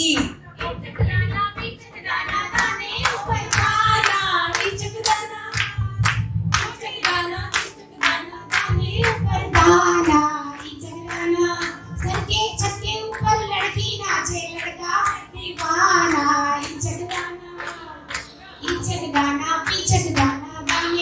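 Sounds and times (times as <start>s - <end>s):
women singing together: 0.0s - 21.0s
hands clapping in time: 0.1s - 12.4s, 14.5s - 21.0s.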